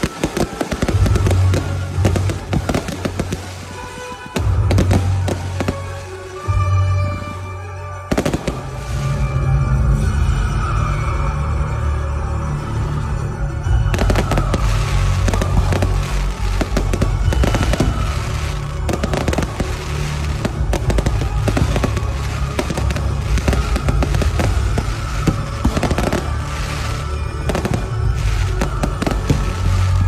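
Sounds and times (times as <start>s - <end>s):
fireworks shells bursting: 0.0s - 9.5s, 13.9s - 30.0s
fireworks crackling: 0.0s - 10.8s, 13.6s - 30.0s
music: 0.0s - 30.0s.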